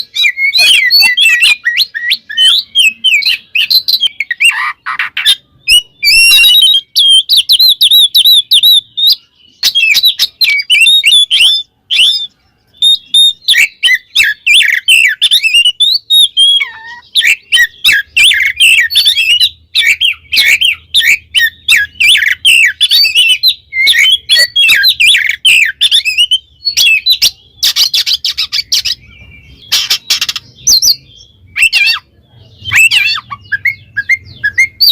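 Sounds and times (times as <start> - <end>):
magpie-robin singing: 0.0 - 34.9.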